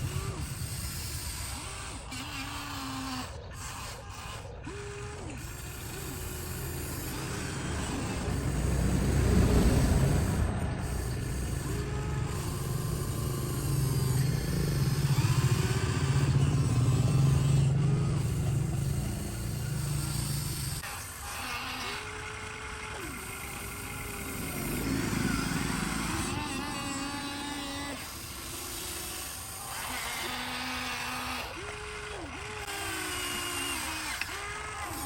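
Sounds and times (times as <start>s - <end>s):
toy machine motor running: 0.0s - 35.0s
short rising and falling whines: 4.0s - 35.0s.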